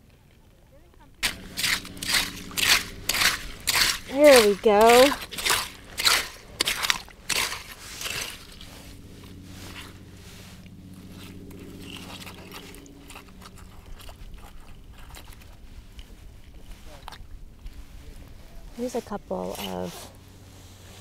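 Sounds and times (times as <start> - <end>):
faint low hum: 0.0 - 21.0
hand fork scraping gravelly sand: 1.2 - 17.0, 17.8 - 21.0.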